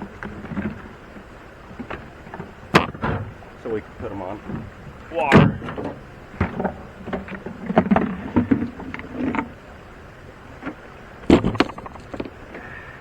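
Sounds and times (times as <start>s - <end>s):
bucket knocking against boat: 0.0s - 9.6s, 10.6s - 12.7s
water splashing and sloshing: 0.0s - 13.0s.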